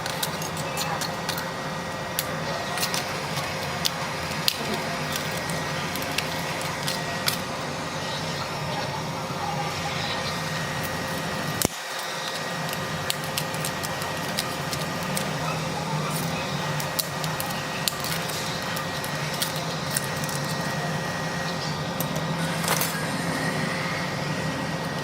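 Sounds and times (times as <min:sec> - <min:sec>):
steady hum and hiss: 0:00.0 - 0:25.0.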